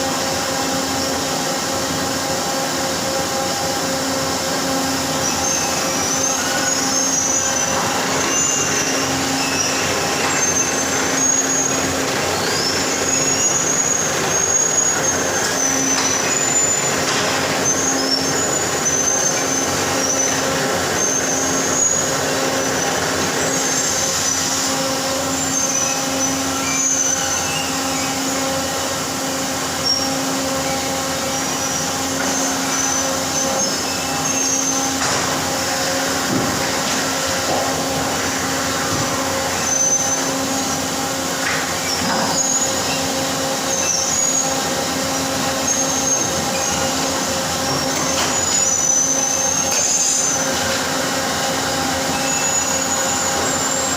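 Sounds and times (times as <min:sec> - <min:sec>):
machine mechanical drone: 0:00.0 - 0:53.9
short high-pitched squeals: 0:03.4 - 0:53.9.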